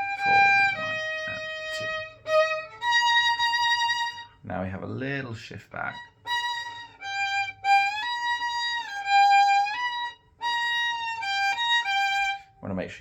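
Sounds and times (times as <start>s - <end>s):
solo violin bowed notes: 0.0s - 12.8s.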